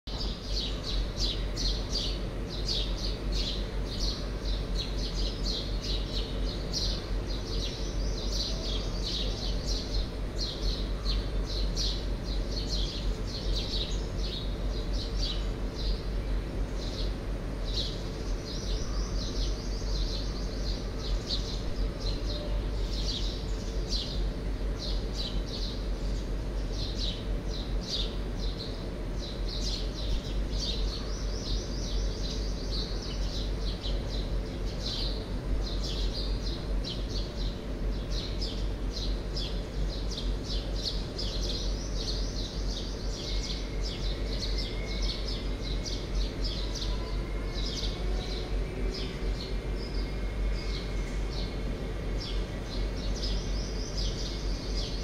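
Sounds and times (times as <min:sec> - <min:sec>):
steady low hum: 0:00.0 - 0:55.0
birds chirping: 0:00.1 - 0:55.0.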